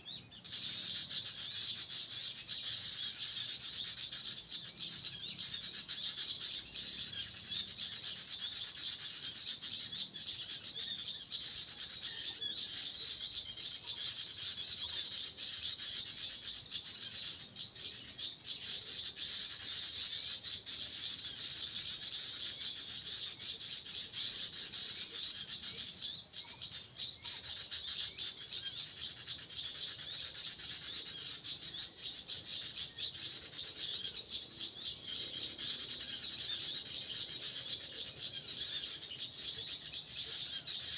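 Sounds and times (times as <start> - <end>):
small birds twittering and chirping: 0.0 - 40.9.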